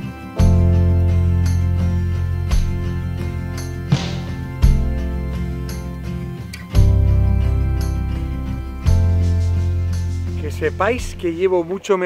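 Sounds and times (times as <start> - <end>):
plucked guitar music: 0.0 - 11.4.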